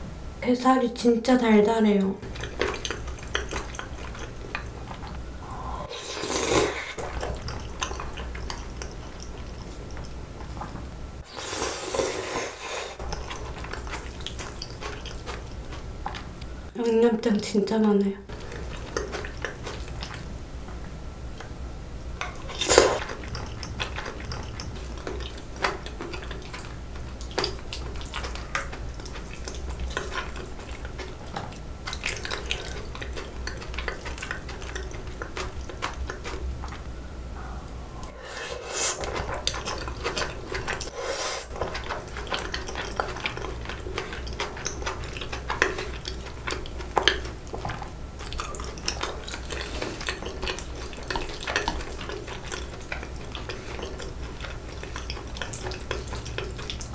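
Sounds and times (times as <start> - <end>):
chewing: 2.2 - 16.7, 18.2 - 56.9.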